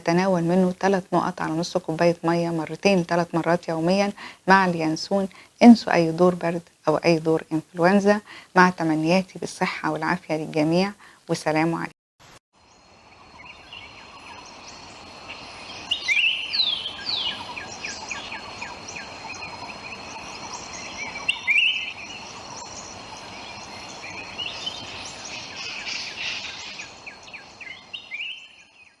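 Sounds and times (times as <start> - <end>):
birds chirping and trilling: 0.0 - 11.9, 12.6 - 29.0
faint steady hiss: 0.0 - 28.8.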